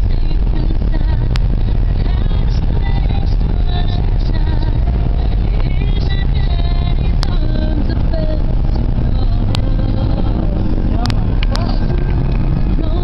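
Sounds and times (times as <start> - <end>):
car engine and tyre rumble: 0.0 - 13.0
faint music in car: 0.0 - 13.0.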